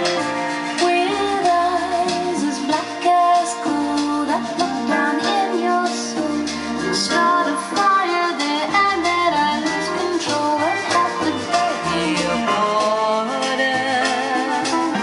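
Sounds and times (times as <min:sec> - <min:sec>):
recorded music over speakers: 0:00.0 - 0:15.0.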